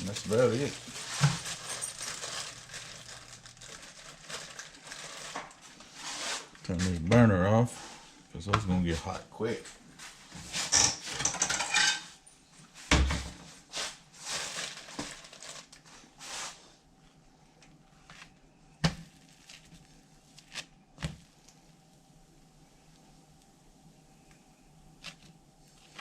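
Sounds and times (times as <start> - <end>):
rustling and scraping: 0.0 - 21.5, 25.0 - 26.0
faint steady hum: 0.0 - 26.0.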